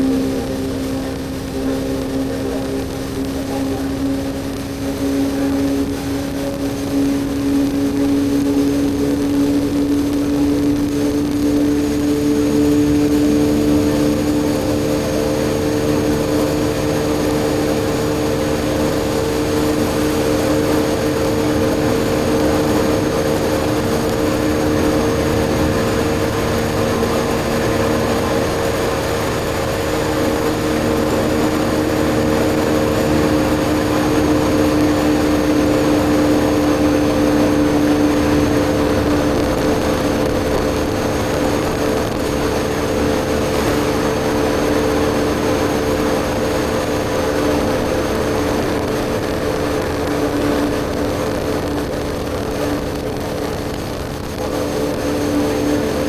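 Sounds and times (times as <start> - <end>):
motorcycle engine droning: 0.0 - 56.0
wind and road noise: 0.0 - 56.0.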